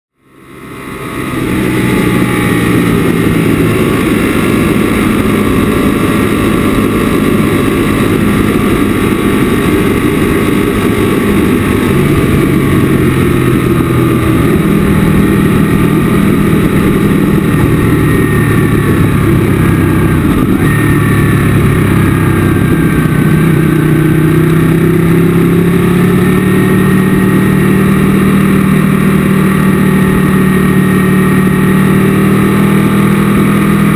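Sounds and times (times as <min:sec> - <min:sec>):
motorcycle engine at speed: 0:00.1 - 0:33.9
rushing wind: 0:00.3 - 0:33.9.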